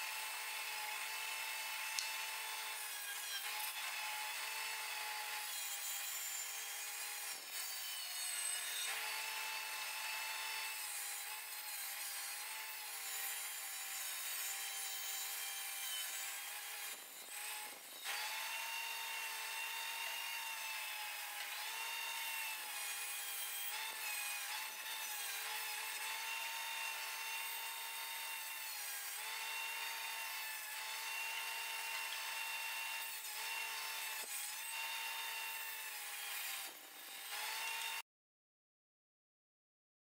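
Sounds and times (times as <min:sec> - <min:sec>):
bandsaw cutting wood: 0:00.0 - 0:38.0.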